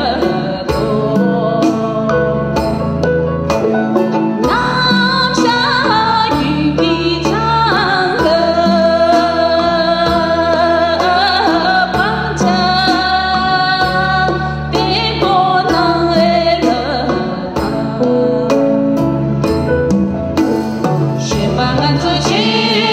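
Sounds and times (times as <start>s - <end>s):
woman singing into a microphone: 0.0s - 3.2s, 4.4s - 19.5s, 21.1s - 22.9s
instrumental accompaniment: 0.0s - 22.9s.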